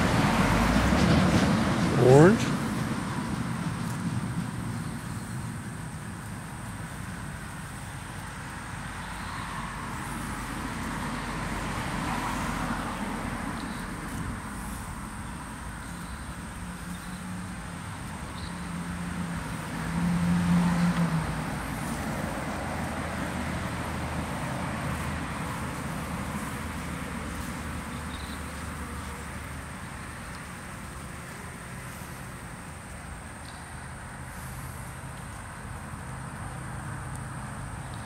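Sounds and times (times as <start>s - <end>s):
honeybees buzzing: 4.8s - 35.4s.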